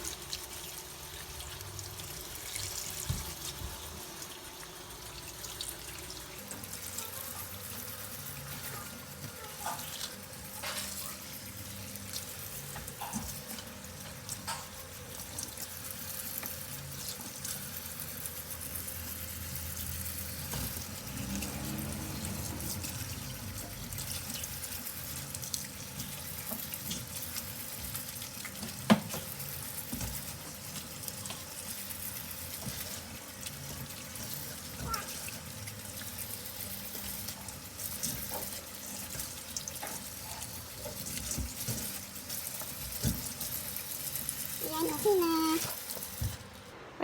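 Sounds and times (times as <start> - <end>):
tap water running into sink: 0.0 - 46.5.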